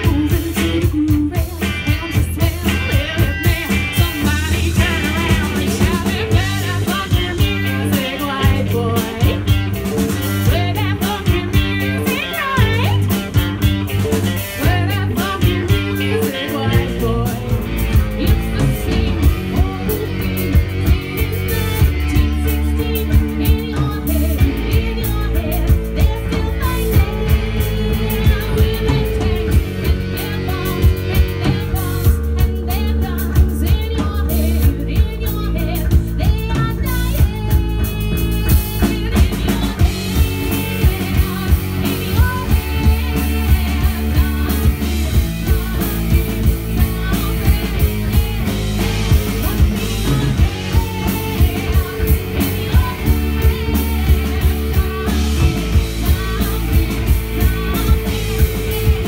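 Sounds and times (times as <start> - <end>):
bass guitar: 0.0 - 59.0
drum kit beat: 0.0 - 59.0
electric guitar: 0.0 - 59.0
woman singing: 0.0 - 59.0.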